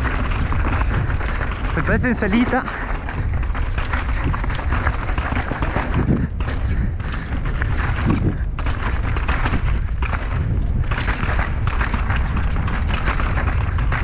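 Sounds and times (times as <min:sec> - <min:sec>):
bike knocking and rattling: 0:00.0 - 0:14.0
tyres crunching over stones: 0:00.0 - 0:14.0
wind on the microphone: 0:00.0 - 0:14.0.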